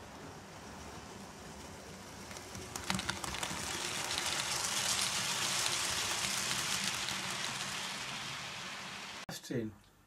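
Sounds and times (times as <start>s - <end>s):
model train wheels rolling on rail: 0.0s - 9.2s.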